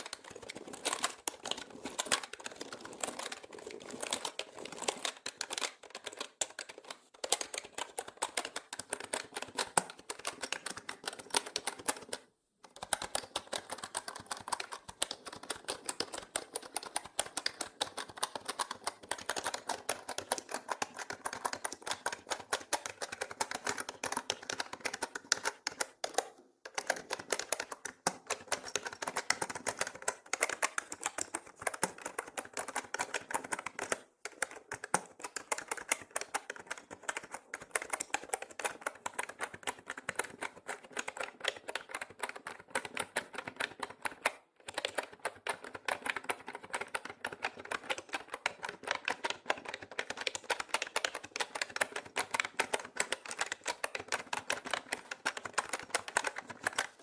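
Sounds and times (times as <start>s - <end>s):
fast mechanical keyboard typing: 0.0s - 57.0s.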